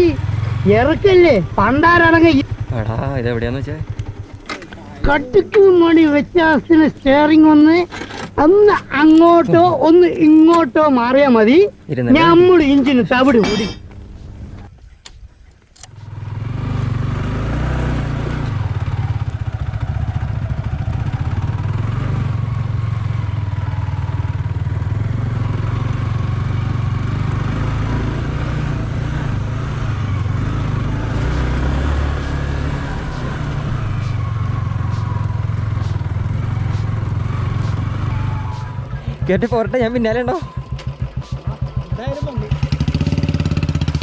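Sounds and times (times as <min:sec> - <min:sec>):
motorcycle engine running: 0:00.0 - 0:14.7, 0:15.9 - 0:44.0.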